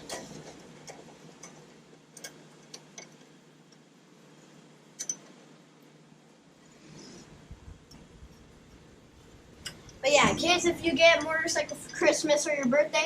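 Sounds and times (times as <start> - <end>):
quiet room hum: 0.0 - 13.0.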